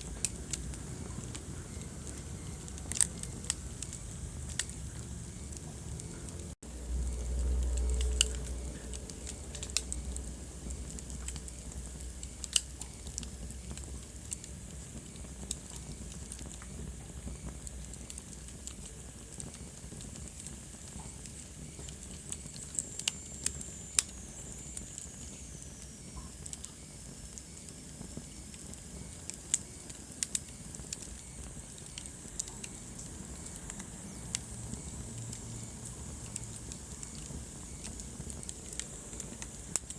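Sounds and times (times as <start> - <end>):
fire crackling and popping: 0.0 - 39.9
fire hissing: 0.0 - 39.9.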